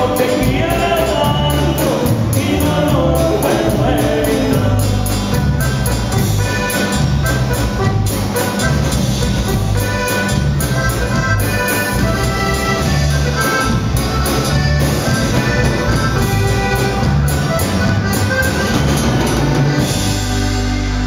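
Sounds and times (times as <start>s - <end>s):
accordion melody: 0.0s - 21.0s
bass: 0.0s - 21.0s
drum kit: 0.0s - 21.0s.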